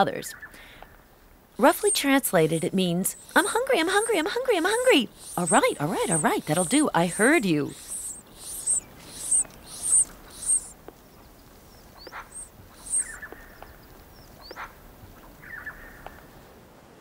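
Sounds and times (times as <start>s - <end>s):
nestlings begging squeaks: 1.6s - 16.2s
short chirping calls: 1.6s - 16.2s.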